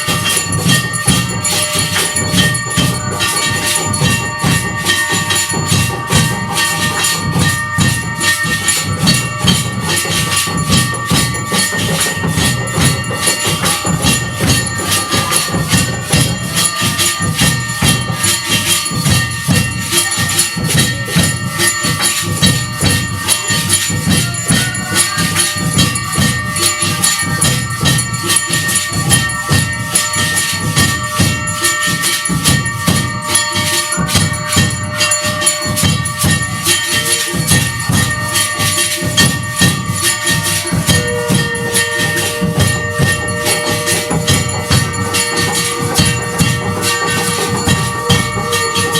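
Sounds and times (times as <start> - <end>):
bells ringing: 0.0 - 48.9
metal cymbals clanging: 0.0 - 48.9.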